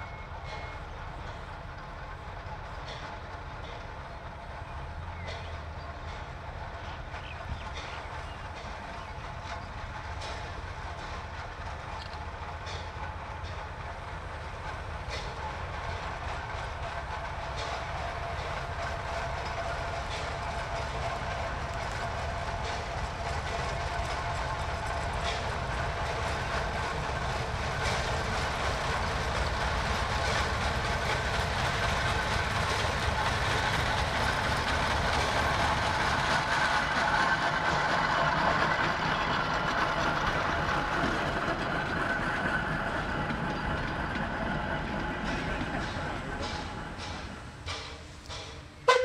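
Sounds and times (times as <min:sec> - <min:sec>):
steam locomotive whine: 0:00.0 - 0:49.0.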